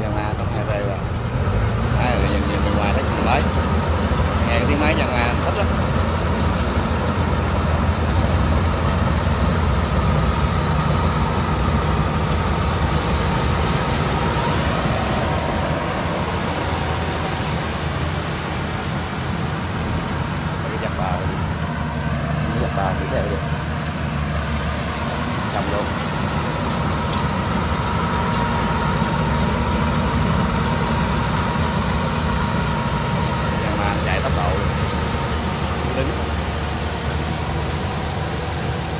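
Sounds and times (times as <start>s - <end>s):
combine harvester diesel engine: 0.0s - 38.9s
steady whine: 0.0s - 38.9s.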